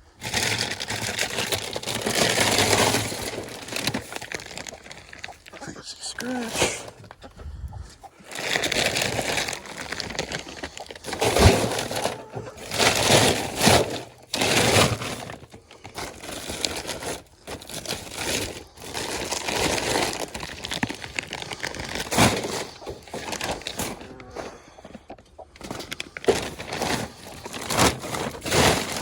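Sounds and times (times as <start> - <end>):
grain bag crinkling and rustling: 0.2 - 7.2, 8.1 - 24.8, 25.6 - 29.0.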